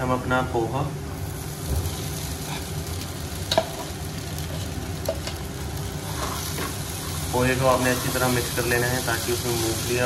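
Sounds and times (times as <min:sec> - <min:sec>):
oil sizzling in a pan: 0:01.2 - 0:10.0.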